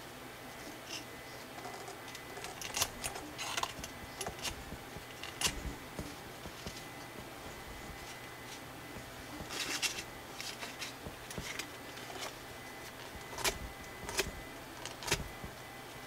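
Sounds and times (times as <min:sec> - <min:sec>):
paper crinkling and crackling: 0:00.5 - 0:16.0.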